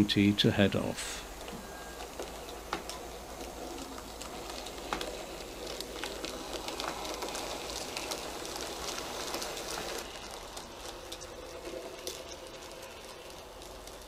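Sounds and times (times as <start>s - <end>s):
model train wheels clicking: 1.0s - 14.0s.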